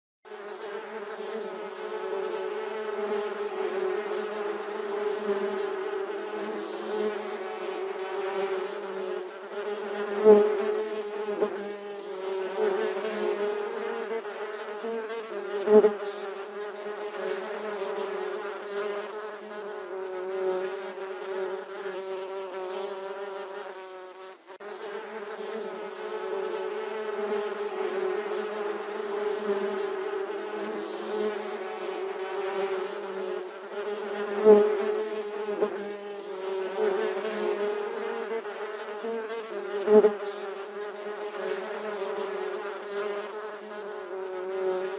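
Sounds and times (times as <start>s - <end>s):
bee buzzing: 0.3s - 44.9s.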